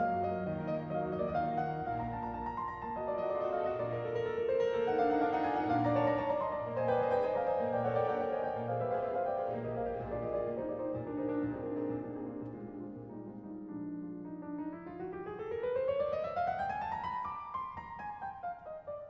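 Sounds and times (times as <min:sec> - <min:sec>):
piano instrumental music: 0:00.0 - 0:19.0.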